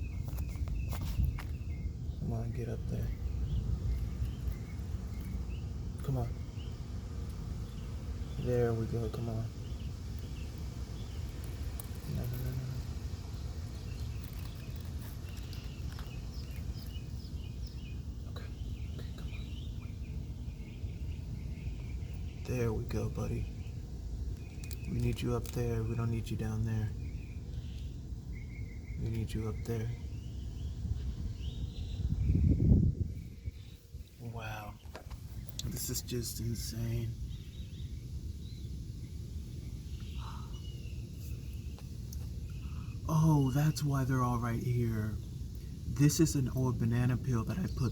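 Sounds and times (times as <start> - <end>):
bird chirping: 0.0 - 47.9
steady low rumble: 0.0 - 47.9.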